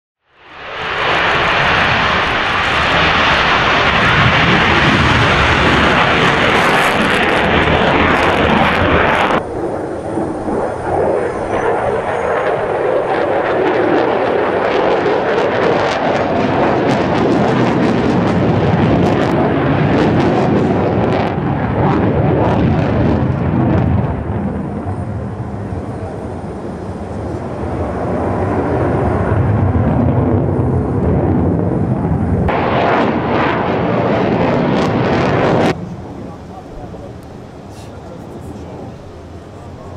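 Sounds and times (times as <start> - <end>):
jet aircraft in flight: 0.2 - 39.9
jet engine roaring on takeoff: 0.2 - 39.9.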